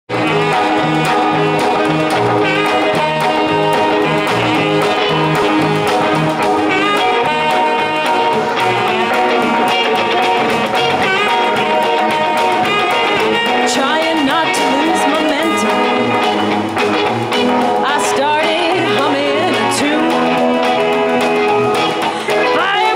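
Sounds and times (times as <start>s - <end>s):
live rock band playing: 0.1s - 22.9s.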